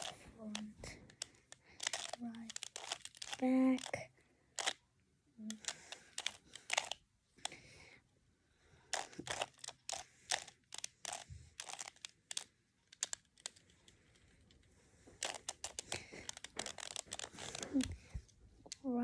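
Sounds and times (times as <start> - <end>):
puzzle cube clicking as twisted: 0.0 - 4.0, 4.6 - 4.8, 5.5 - 7.6, 8.9 - 14.6, 15.2 - 18.8.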